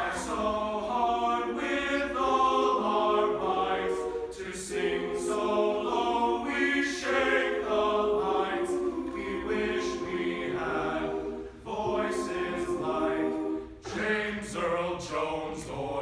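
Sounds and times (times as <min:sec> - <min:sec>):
male choir singing in harmony: 0:00.0 - 0:16.0.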